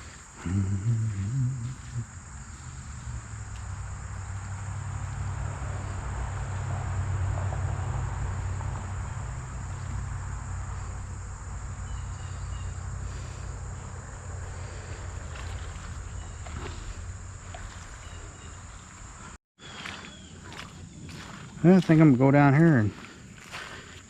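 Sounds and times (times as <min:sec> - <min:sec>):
low steady rumble: 0:00.0 - 0:19.4
crickets trilling: 0:00.0 - 0:24.0.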